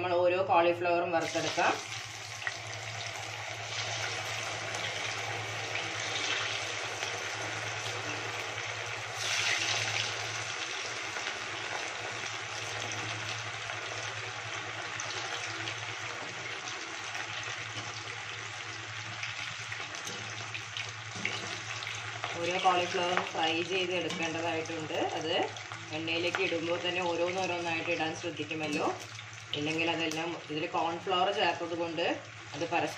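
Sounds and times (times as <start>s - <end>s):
deep-frying oil sizzling: 1.2s - 32.9s.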